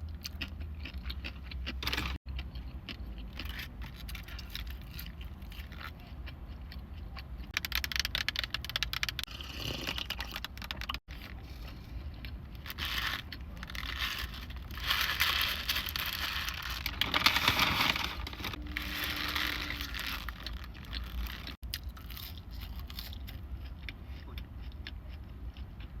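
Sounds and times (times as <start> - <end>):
crunchy food being chewed: 0.0 - 26.0.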